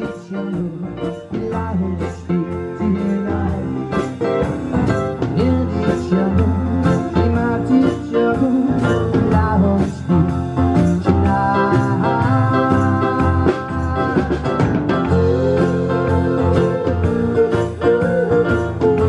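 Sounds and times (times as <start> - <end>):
drum kit steady beat: 0.0 - 19.0
keyboard: 0.0 - 19.0
man singing: 0.0 - 19.0.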